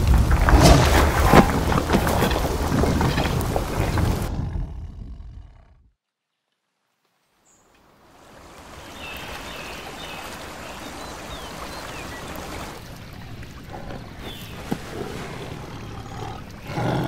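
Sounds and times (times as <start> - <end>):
running water stream: 0.0 - 4.4, 6.9 - 17.0.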